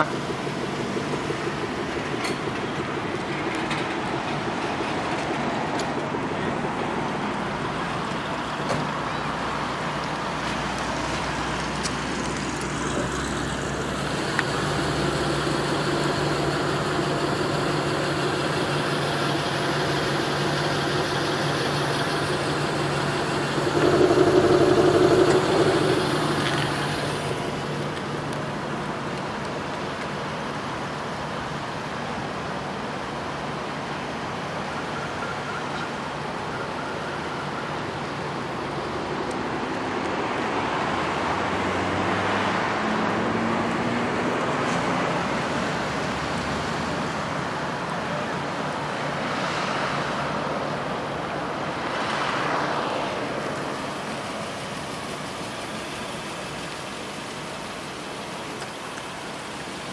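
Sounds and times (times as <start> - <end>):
car engine idling: 0.0 - 39.4, 50.1 - 59.9
traffic noise: 0.0 - 59.9.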